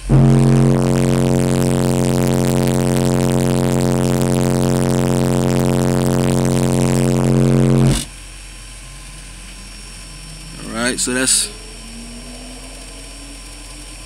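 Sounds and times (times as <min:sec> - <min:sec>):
subwoofer test tone buzzing drone: 0:00.0 - 0:14.0.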